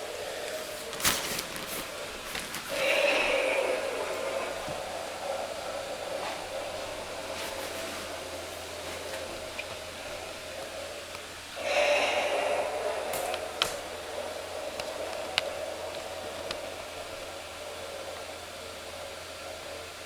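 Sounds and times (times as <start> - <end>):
electric blower fan whirring: 0.0 - 20.0.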